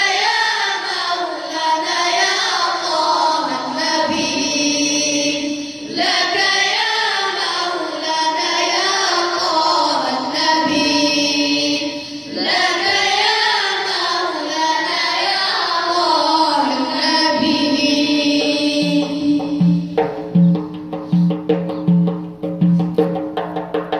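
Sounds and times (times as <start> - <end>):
group singing praise song: 0.0 - 20.1.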